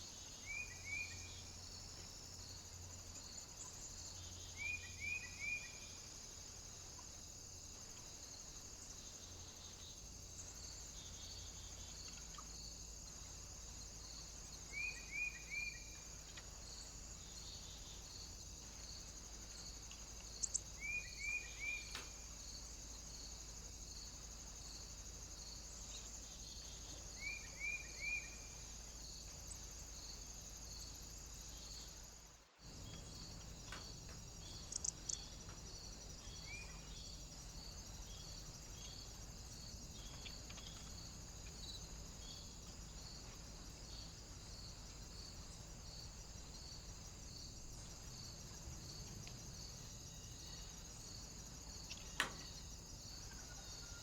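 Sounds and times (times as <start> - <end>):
faint high-pitched hiss: 0.0 - 54.0.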